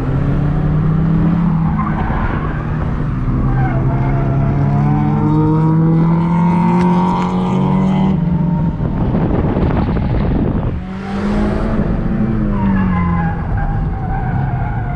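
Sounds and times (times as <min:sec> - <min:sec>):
car engine under load: 0:00.0 - 0:14.9.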